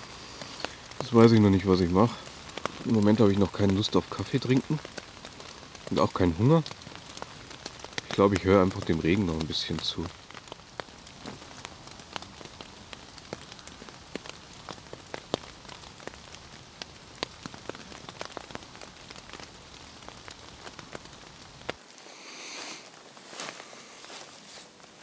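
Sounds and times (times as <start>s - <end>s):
raindrops ticking: 0.0s - 21.9s
rain falling in woodland: 0.0s - 25.0s.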